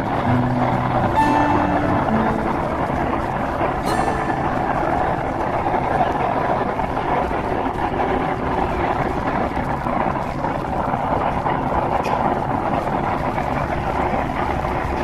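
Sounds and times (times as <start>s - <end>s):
airliner cabin engine noise: 0.0s - 15.0s.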